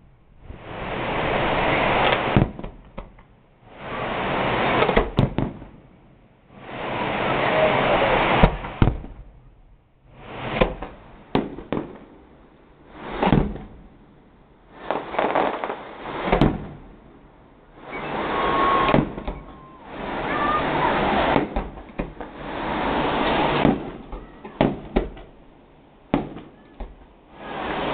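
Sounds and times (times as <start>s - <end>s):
fireworks bangs: 0.0s - 27.9s
fireworks crackling: 0.0s - 27.9s.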